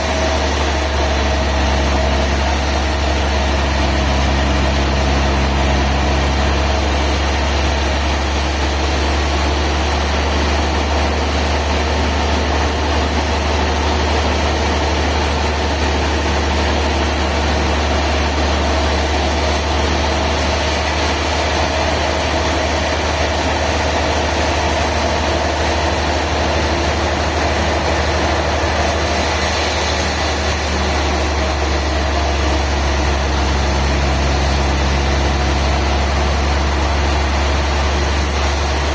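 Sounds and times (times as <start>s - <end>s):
heavy engine droning: 0.0s - 38.9s.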